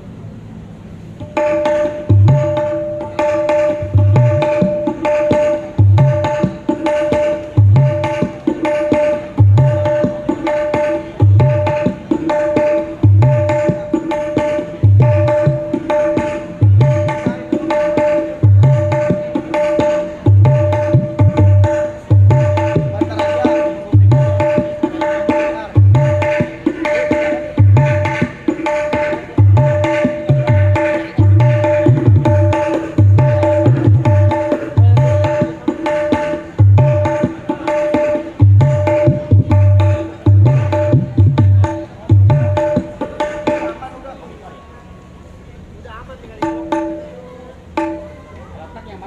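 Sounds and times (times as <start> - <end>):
hand drum groove: 1.1 - 44.0, 46.4 - 48.3.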